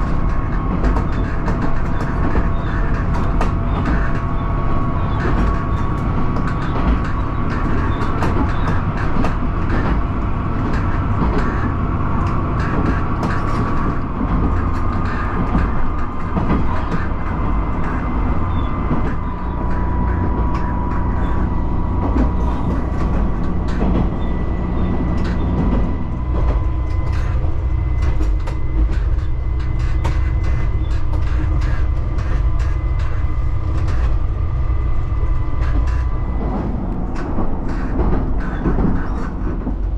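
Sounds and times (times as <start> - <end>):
train engine and wheel rumble: 0.0 - 39.9
wheels clicking over track: 0.0 - 39.9.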